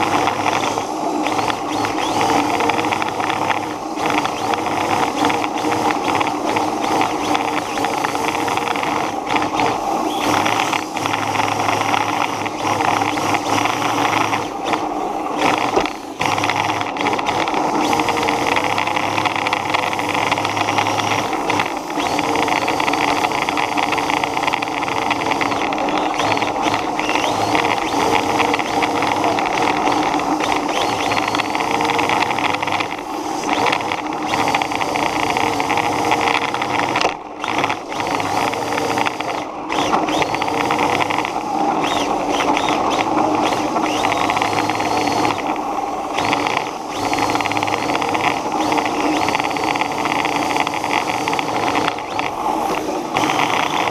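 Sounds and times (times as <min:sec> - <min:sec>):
toy car motor whine with rattle: 0:00.0 - 0:53.9.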